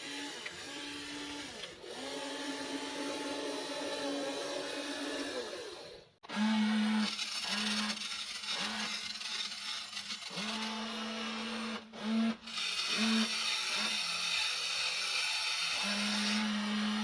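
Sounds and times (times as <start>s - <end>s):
toy electric motors whirring: 0.0s - 17.0s.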